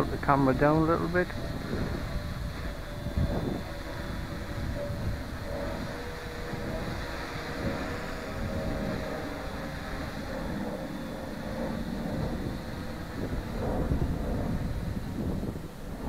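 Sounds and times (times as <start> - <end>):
drone motors humming: 0.0 - 16.0
wind buffeting microphone: 0.0 - 16.0.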